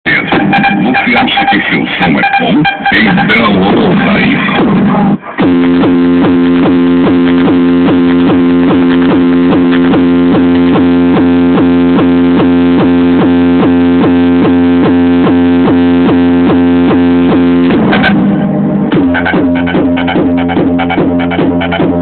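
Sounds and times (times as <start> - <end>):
electronic music from car speakers: 0.0 - 22.0.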